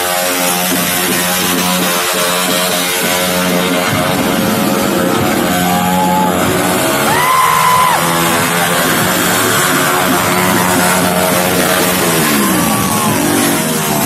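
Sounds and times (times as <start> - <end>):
loud music over loudspeakers: 0.0 - 14.0
motorcycle engine running: 0.0 - 14.0.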